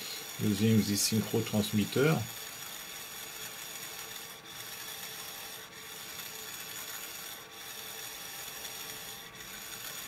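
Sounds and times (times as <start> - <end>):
servo motor rasping whir: 0.0 - 10.0.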